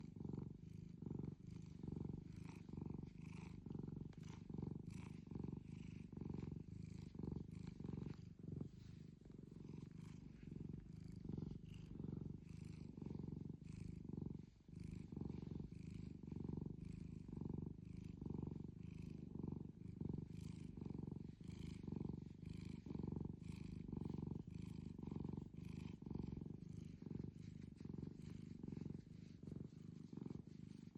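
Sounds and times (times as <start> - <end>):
cat purring loudly: 0.0 - 30.9.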